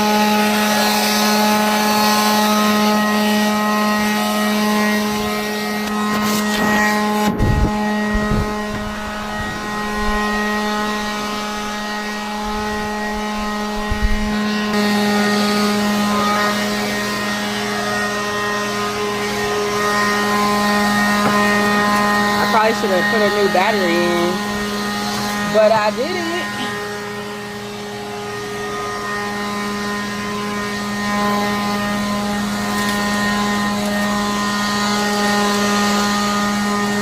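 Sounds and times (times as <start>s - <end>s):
leaf blower running: 0.0s - 37.0s.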